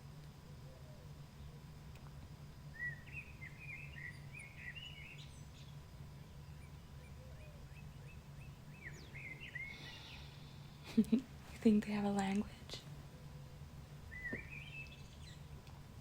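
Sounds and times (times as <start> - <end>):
songbird singing: 0.0 - 16.0
steady low hum: 0.0 - 16.0.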